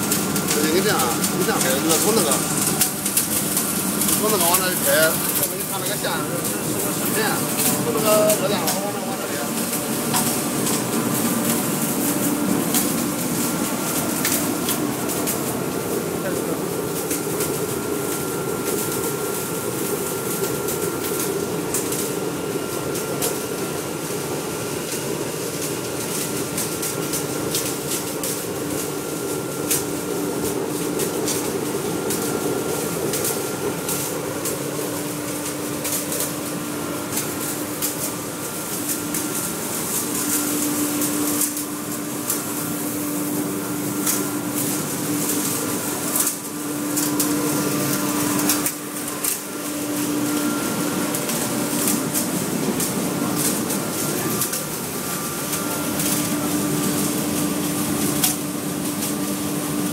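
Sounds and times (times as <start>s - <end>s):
burner flame roaring: 0.0s - 59.9s
sharp crackles: 0.1s - 22.1s, 25.6s - 59.2s.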